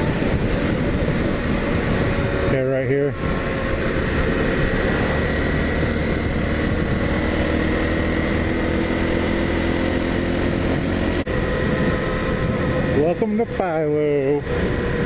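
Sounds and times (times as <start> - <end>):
motorcycle engine running: 0.0 - 15.0
wind rush: 0.0 - 15.0.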